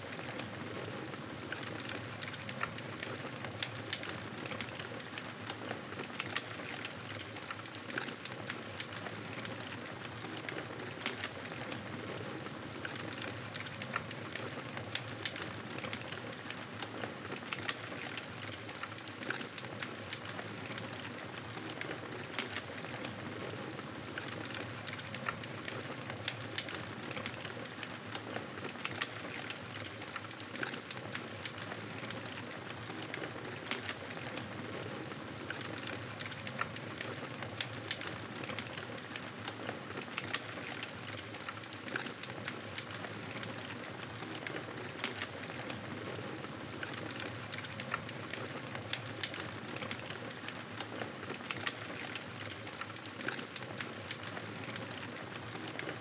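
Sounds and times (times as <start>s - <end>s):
burning wood crackling and popping: 0.0s - 56.0s.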